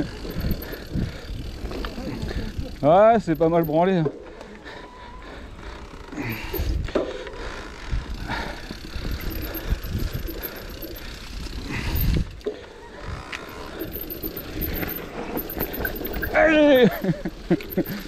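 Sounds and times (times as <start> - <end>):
bike tyres rolling over mud: 0.0 - 4.0, 4.6 - 18.0.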